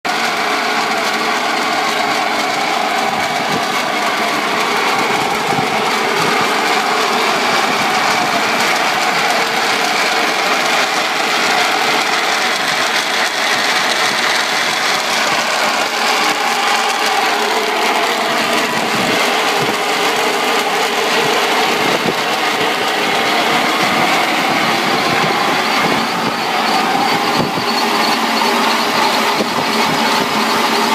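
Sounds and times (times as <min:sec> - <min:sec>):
fan drive mechanical noise: 0:00.1 - 0:30.9.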